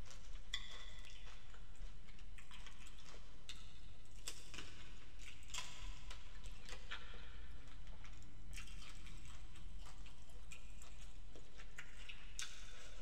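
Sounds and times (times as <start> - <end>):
faint low hum: 0.0 - 13.0
wet eating clicks and crackles: 0.0 - 13.0.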